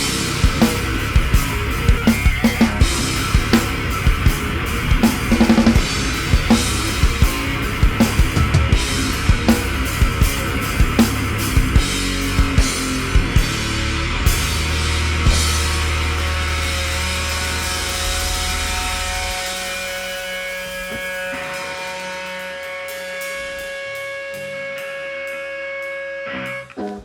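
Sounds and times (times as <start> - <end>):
punk rock band playing: 0.0 - 27.0.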